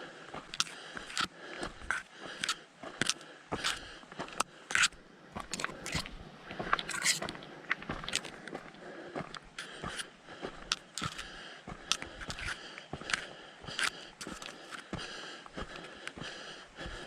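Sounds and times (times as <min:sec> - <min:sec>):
footsteps crunching on dry trail: 0:00.0 - 0:17.0.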